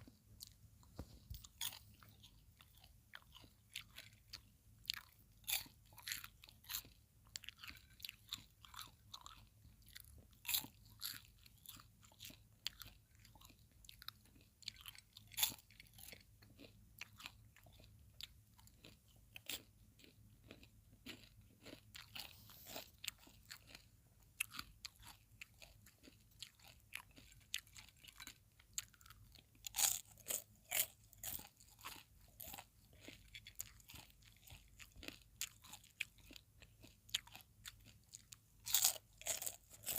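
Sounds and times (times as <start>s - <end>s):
faint low hum: 0.0s - 39.9s
popcorn chewing crunches: 0.1s - 39.9s.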